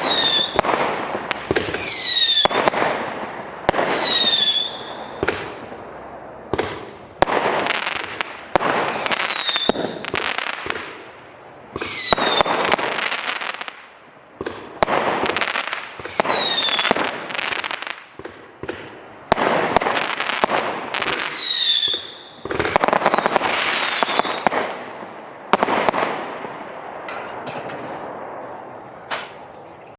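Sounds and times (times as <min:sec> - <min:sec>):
fireworks firing in rapid volleys: 0:00.0 - 0:29.5.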